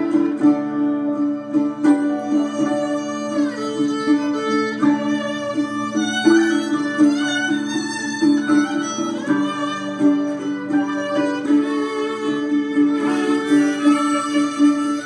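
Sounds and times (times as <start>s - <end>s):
gospel music from a trio: 0.0s - 15.0s.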